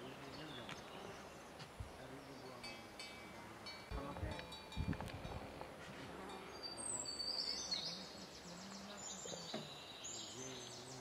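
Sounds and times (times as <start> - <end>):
small birds chirping and trilling: 0.0 - 4.4, 6.2 - 11.0
faint voices talking: 0.0 - 11.0.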